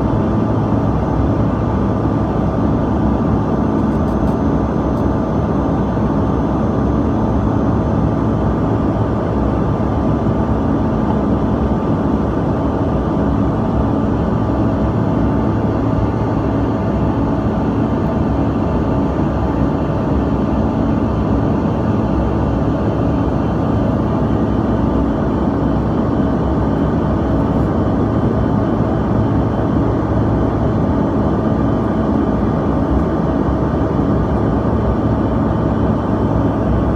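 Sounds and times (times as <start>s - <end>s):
rush of air in aircraft cabin: 0.0s - 36.9s.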